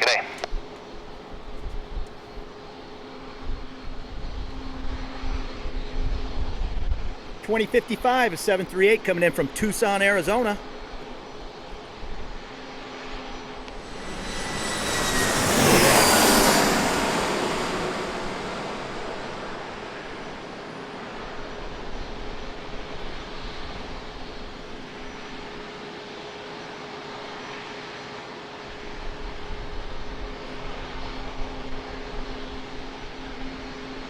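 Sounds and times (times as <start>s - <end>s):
jet airliner engines passing: 0.0s - 34.0s.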